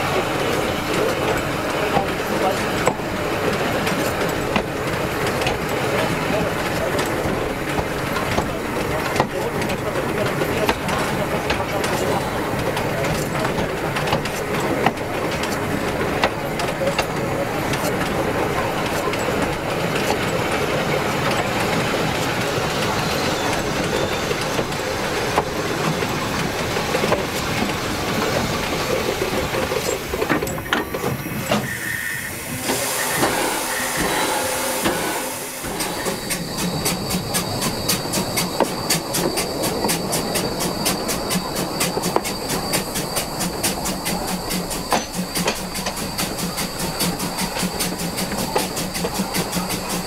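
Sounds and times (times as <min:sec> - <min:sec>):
wagon wheels clattering on rails: 0:00.0 - 0:31.7, 0:35.7 - 0:50.0
steam hissing: 0:00.0 - 0:50.0.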